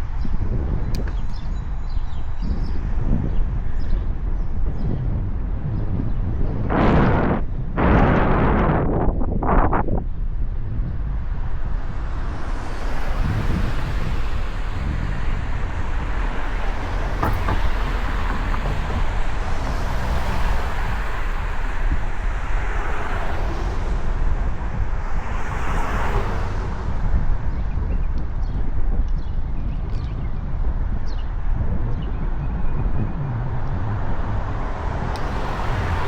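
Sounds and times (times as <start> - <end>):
bicycle road noise: 0.0 - 36.0
traffic noise: 0.0 - 36.0
wind rush on microphone: 0.0 - 36.0.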